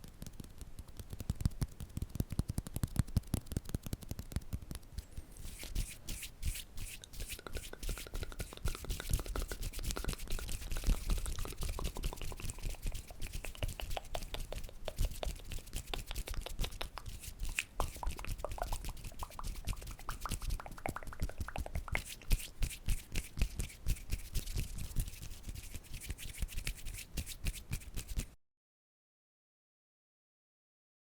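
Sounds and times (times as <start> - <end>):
fast taps and clicks: 0.0 - 5.0, 5.6 - 28.3.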